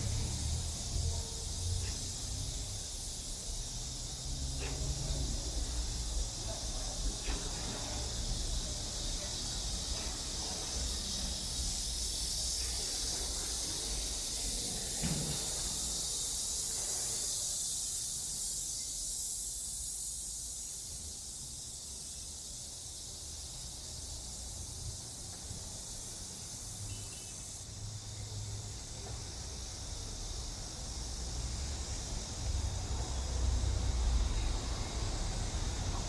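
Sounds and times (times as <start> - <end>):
cicada chorus buzzing: 0.0 - 36.0.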